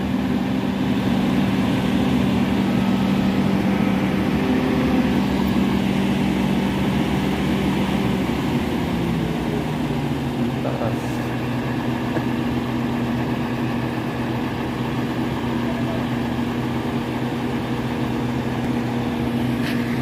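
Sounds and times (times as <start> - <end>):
diesel engines droning: 0.0 - 20.0.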